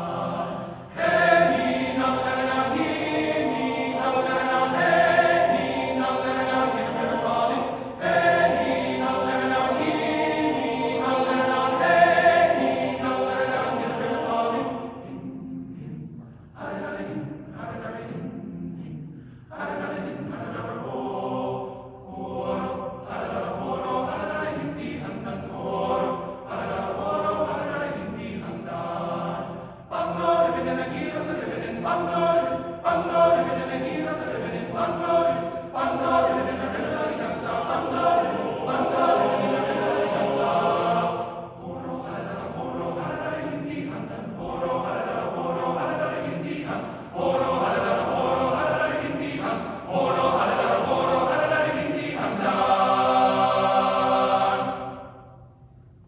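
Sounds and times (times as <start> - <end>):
men's chorus singing: 0.0 - 55.3.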